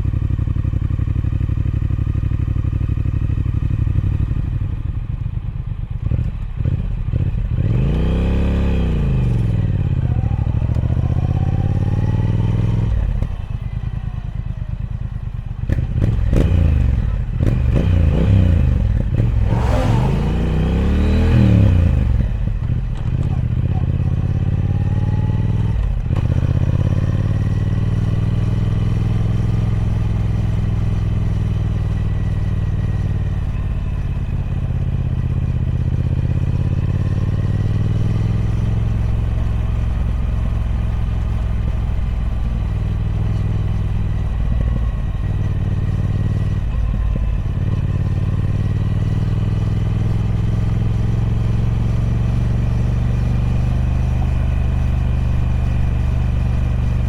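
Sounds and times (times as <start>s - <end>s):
motorcycle engine drone: 0.0s - 57.0s.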